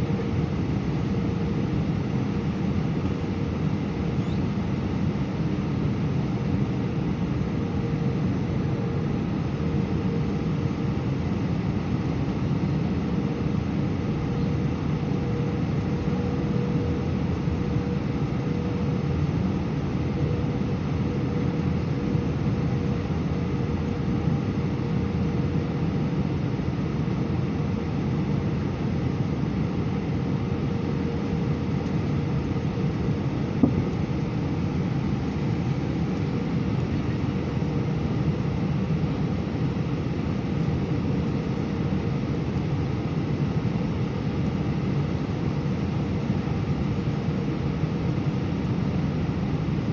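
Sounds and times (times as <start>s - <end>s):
airliner cabin noise: 0.0s - 49.9s.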